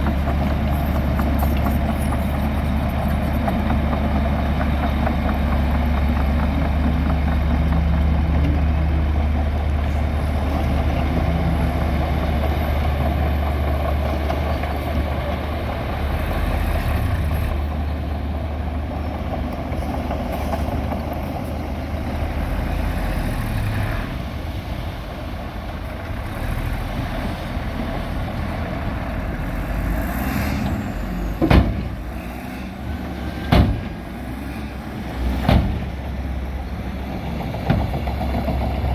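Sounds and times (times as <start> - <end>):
diesel machinery engine drone: 0.0 - 38.9.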